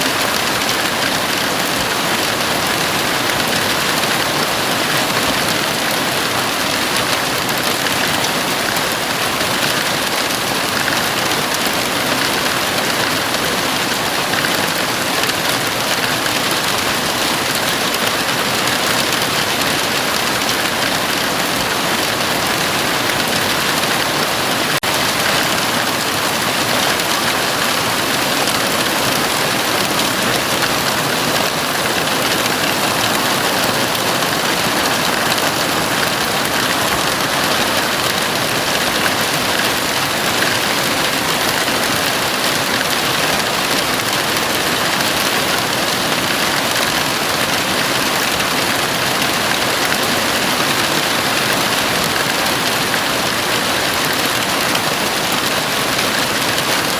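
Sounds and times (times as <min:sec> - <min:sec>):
heavy rain on a roof: 0:00.0 - 0:56.9.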